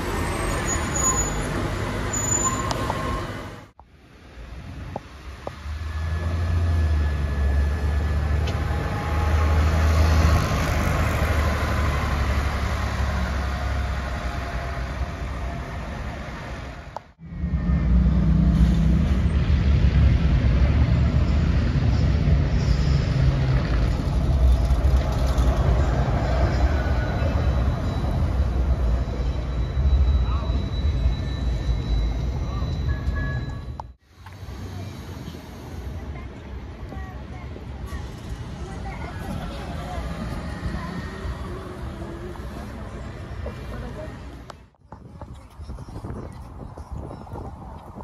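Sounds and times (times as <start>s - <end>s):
bus engine hum: 0.0s - 48.0s
traffic noise: 0.0s - 48.0s.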